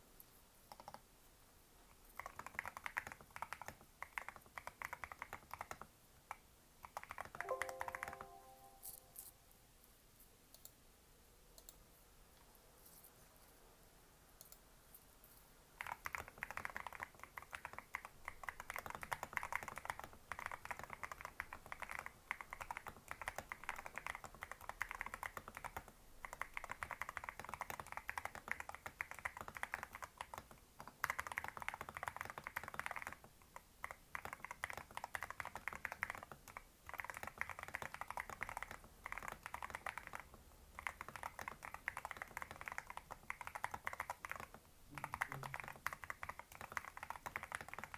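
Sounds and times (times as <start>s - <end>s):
fast mechanical keyboard typing: 0.7s - 1.0s, 2.2s - 8.6s, 15.8s - 47.9s.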